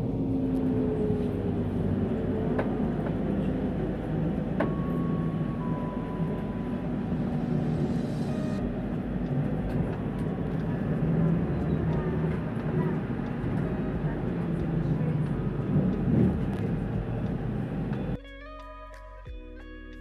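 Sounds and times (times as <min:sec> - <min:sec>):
vehicle rumble: 0:00.0 - 0:18.4.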